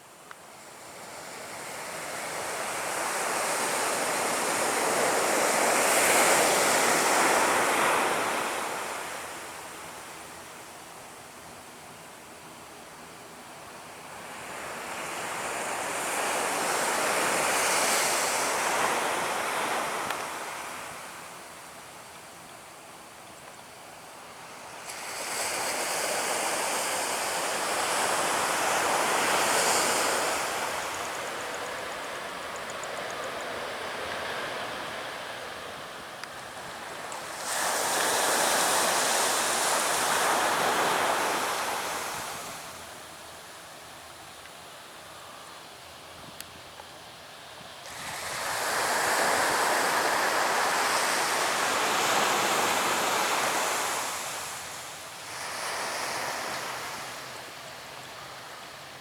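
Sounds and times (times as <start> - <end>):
waves rushing on a beach: 0.6 - 10.4, 14.0 - 21.7, 24.3 - 43.6, 47.8 - 59.0.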